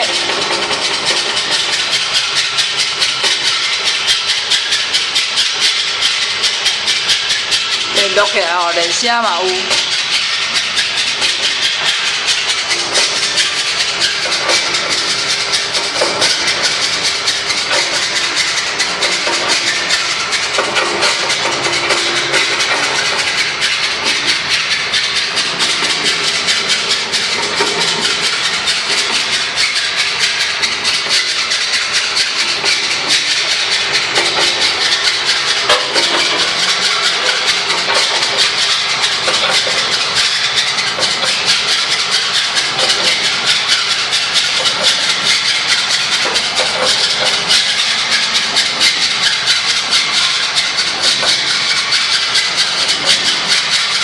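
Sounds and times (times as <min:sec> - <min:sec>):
pipes vibrating with rushing hiss: 0:00.0 - 0:54.0.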